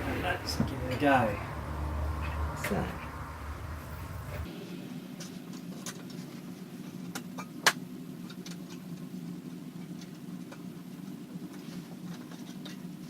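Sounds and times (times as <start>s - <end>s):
steady low hum: 0.0s - 12.2s.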